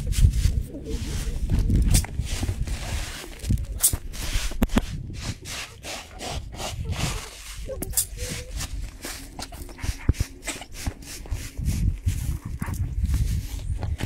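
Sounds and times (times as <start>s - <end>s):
grain rustling in a basket: 0.0s - 13.8s.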